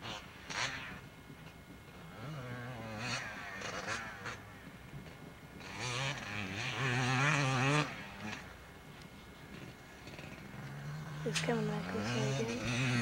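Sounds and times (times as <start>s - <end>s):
dirt bike engine revving: 0.0s - 8.7s, 9.4s - 13.0s.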